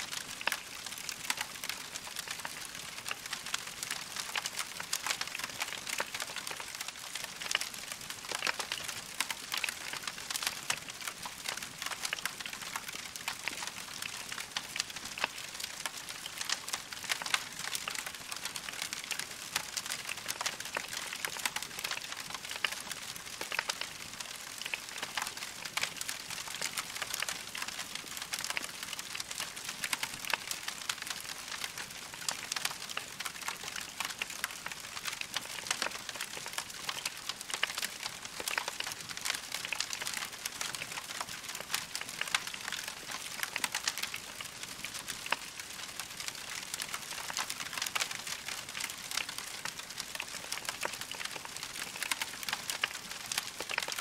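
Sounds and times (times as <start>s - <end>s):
log fire crackling: 0.1s - 54.0s.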